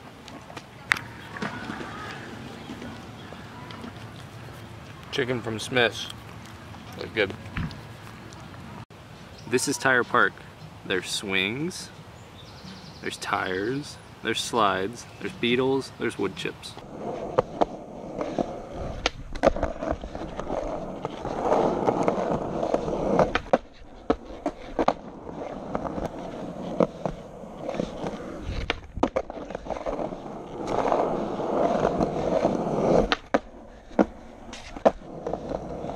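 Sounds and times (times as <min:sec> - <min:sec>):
skateboard wheels rolling on concrete: 0:00.0 - 0:35.9.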